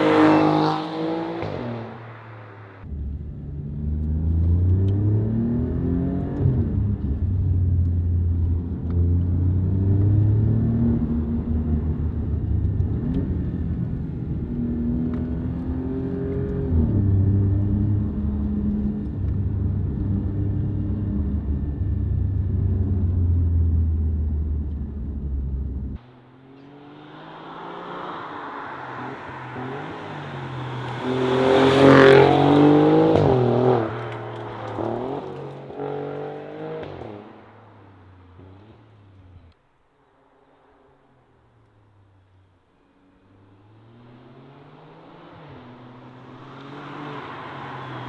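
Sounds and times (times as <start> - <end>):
car approaching engine rising: 0.0 - 39.6, 42.8 - 48.0
car engine accelerating with upshifts: 0.0 - 39.6, 42.1 - 48.0.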